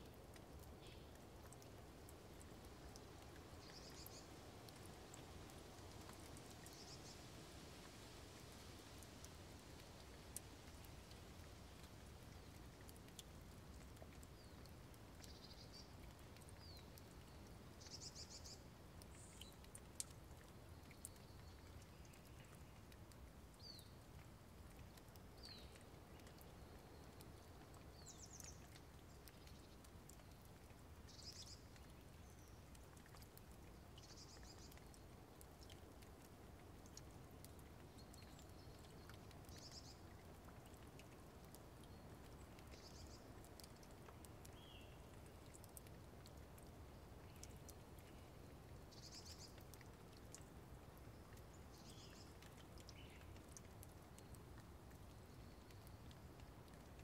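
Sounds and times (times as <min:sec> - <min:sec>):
low background hiss: 0:00.0 - 0:57.0.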